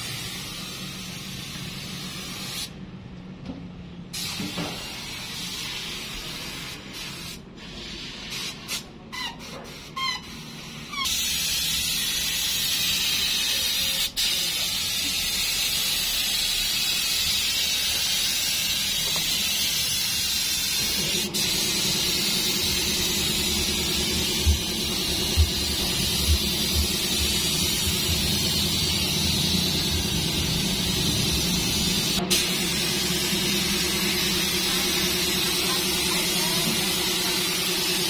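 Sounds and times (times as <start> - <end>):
spray gun hissing: 4.2 - 8.6, 11.1 - 38.0.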